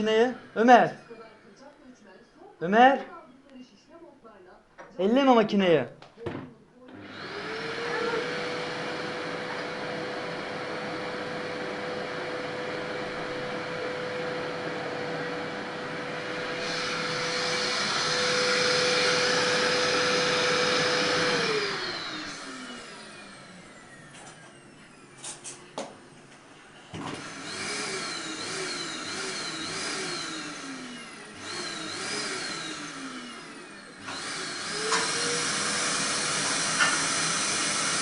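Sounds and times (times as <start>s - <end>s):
vacuum cleaner motor whining: 0.0s - 1.6s, 6.9s - 38.0s.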